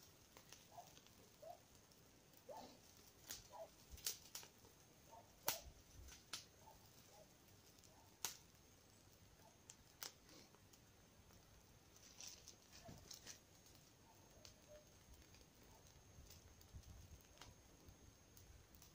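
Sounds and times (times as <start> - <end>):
tinder crackling and popping: 0.0 - 18.9.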